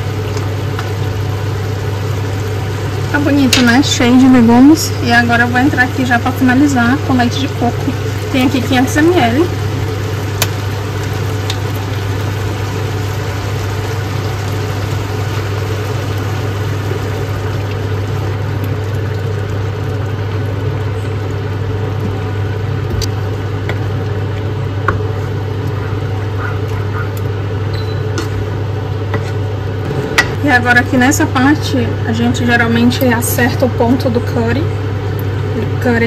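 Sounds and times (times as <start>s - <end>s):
kitchen appliance humming: 0.0s - 36.0s.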